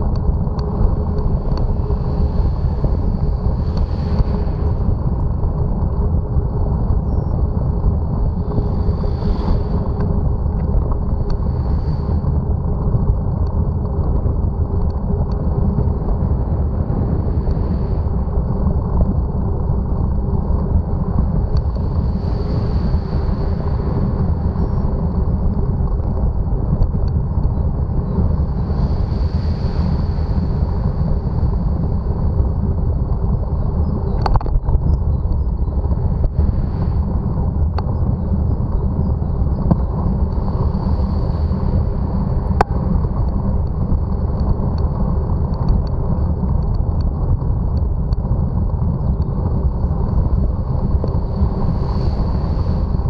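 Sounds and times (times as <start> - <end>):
wind rumbling on microphone: 0.0 - 53.0.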